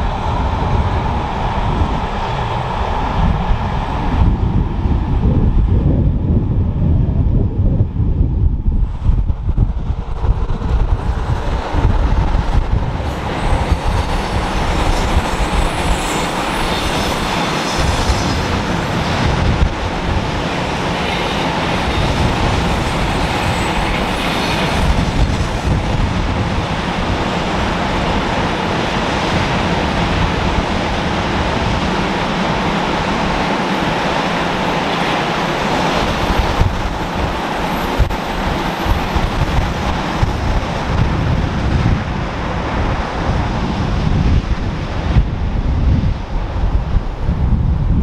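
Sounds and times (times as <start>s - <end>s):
freight train rumbling past: 0.0s - 48.0s.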